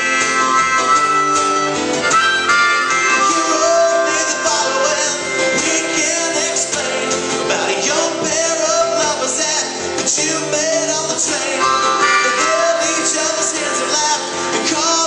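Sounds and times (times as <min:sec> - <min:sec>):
guitar accompaniment: 0:00.0 - 0:15.0
harmonica: 0:00.0 - 0:15.0.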